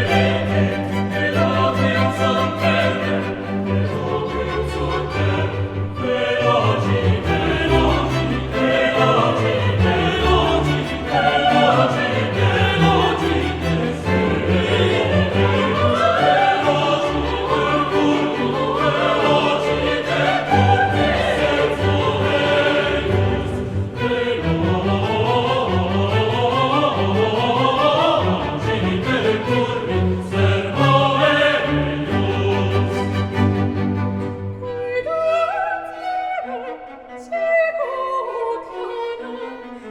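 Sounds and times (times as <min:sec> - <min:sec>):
classical choral and orchestral music: 0:00.0 - 0:39.9.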